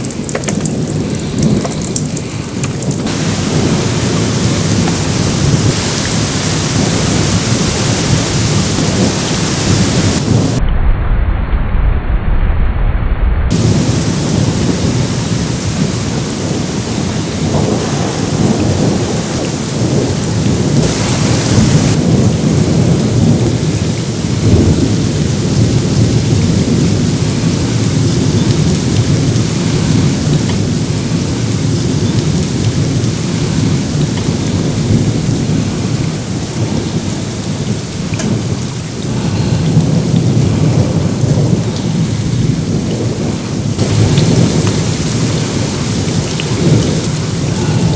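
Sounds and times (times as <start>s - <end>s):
torrential rain: 0.0s - 11.9s, 13.5s - 47.9s
thunder rumbling: 0.0s - 47.9s.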